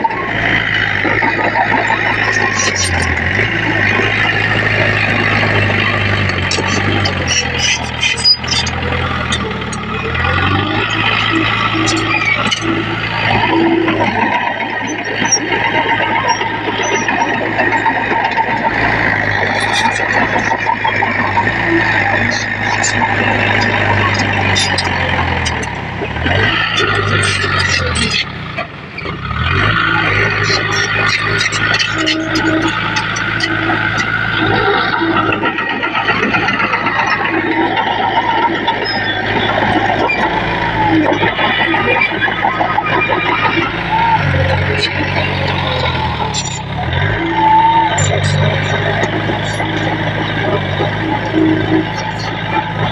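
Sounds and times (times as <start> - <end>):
heavy diesel machinery engine: 0.0 - 52.9.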